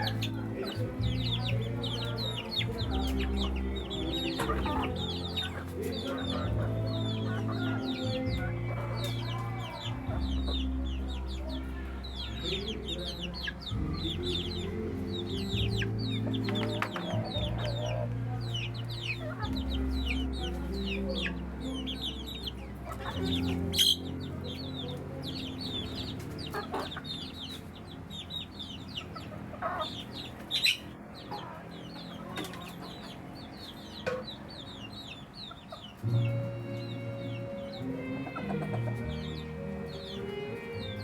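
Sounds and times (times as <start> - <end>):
chickens clucking and peeping: 0.0 - 41.0.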